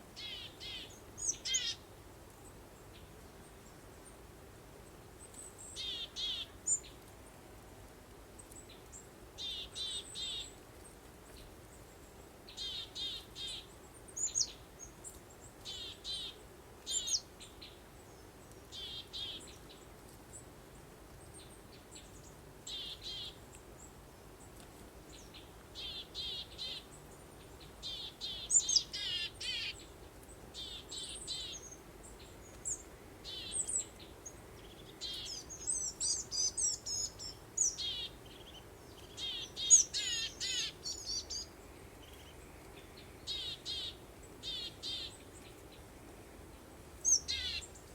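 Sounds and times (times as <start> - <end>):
faint background hum: 0.0 - 47.9.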